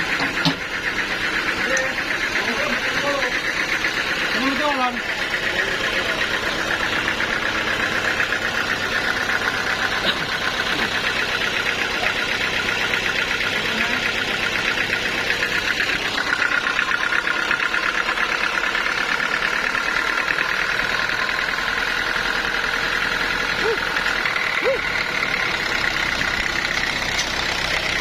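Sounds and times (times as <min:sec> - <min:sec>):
sawmill machinery drone: 0:00.0 - 0:28.0.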